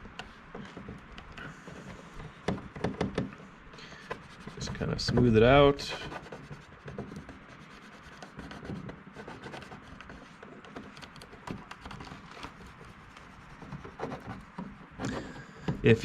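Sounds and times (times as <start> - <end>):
fingers rubbing on plastic: 0.0 - 16.0.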